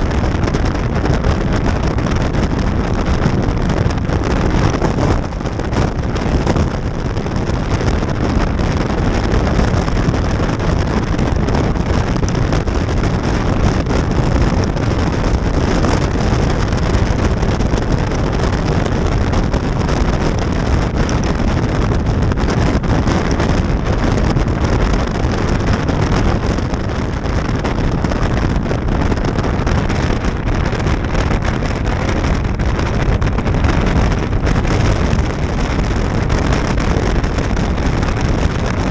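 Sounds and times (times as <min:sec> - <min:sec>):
motorcycle running: 0:00.0 - 0:38.9
road noise: 0:00.0 - 0:38.9
wind rushing over microphone: 0:00.0 - 0:38.9.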